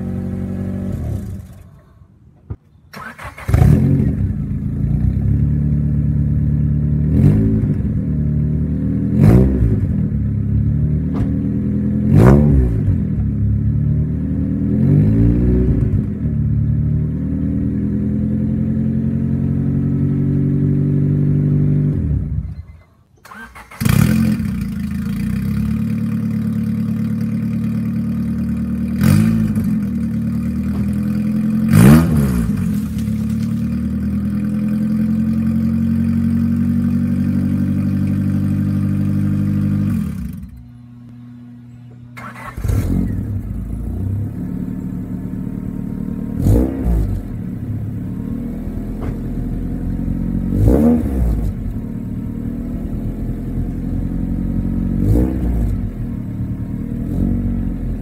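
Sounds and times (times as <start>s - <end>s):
car engine idling and revving: 0.0s - 1.8s, 3.0s - 58.0s.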